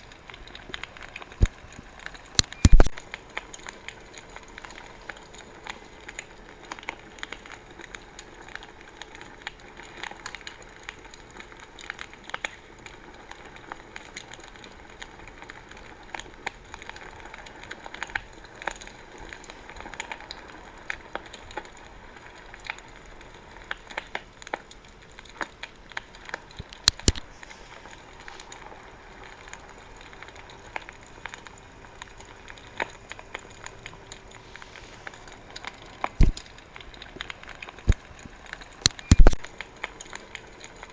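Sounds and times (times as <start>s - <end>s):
wood bonfire crackling: 0.0s - 40.9s.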